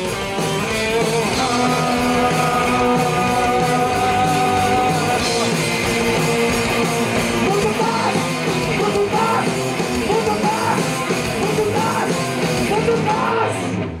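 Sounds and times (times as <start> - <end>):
rock band playing: 0.0 - 14.0
person singing: 0.5 - 5.7, 7.4 - 13.7.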